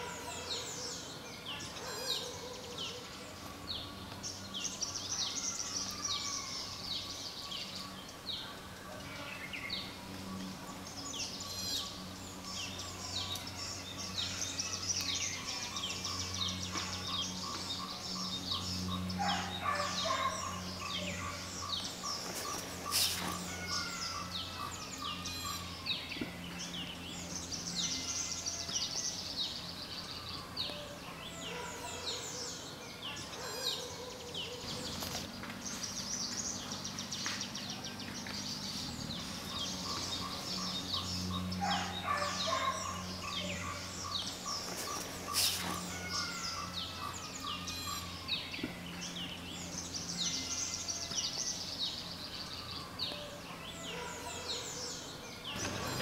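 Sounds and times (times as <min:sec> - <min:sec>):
birds chirping and calling: 0:00.0 - 0:56.0
steady low hum: 0:00.0 - 0:56.0.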